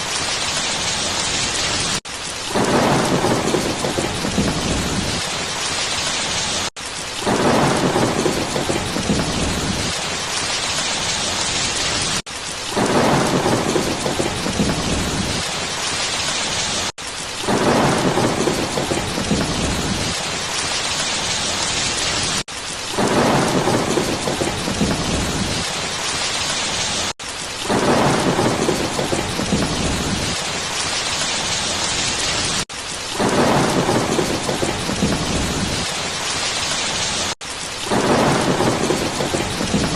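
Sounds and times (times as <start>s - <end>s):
heavy rain hiss: 0.0s - 39.9s
low thunder rumbles: 0.2s - 6.6s, 7.2s - 16.8s, 17.4s - 26.9s, 27.6s - 39.9s.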